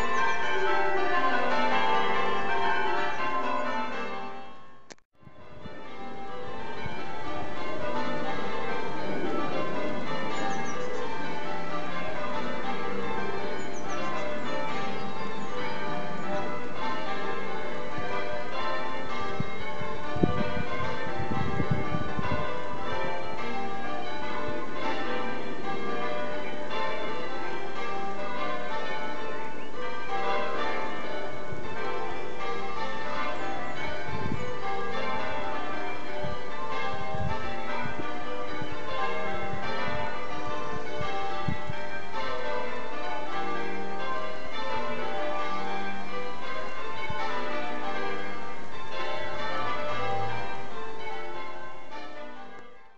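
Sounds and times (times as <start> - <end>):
church bells change ringing: 0.0 - 52.9.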